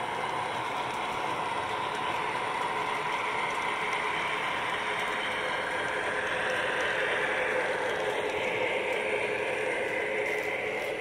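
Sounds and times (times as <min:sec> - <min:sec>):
model train running noise: 0:00.0 - 0:11.0.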